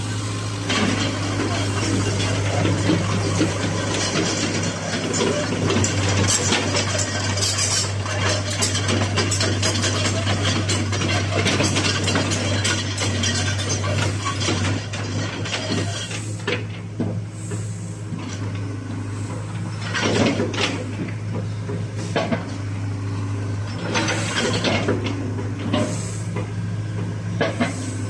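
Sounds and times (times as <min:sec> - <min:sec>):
excavator diesel engine hum: 0:00.0 - 0:28.0
metallic clanks and knocks: 0:00.7 - 0:17.2, 0:19.2 - 0:22.6, 0:23.6 - 0:27.9.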